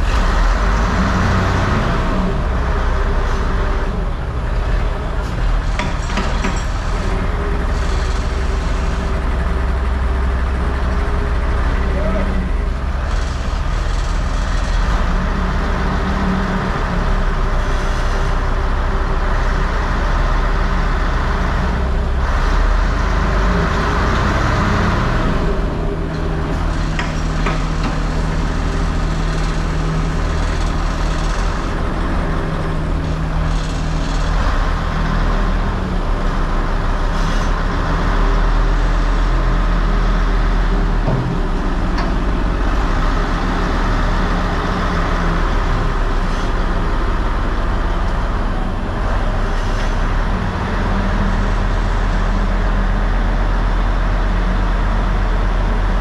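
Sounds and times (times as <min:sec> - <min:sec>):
large engine running steadily: 0:00.0 - 0:56.0.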